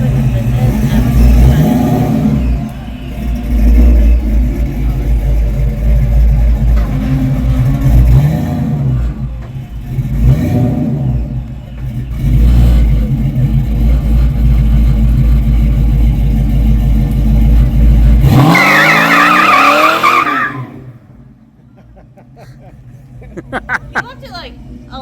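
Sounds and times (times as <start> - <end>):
car engine revving: 0.0 - 21.2.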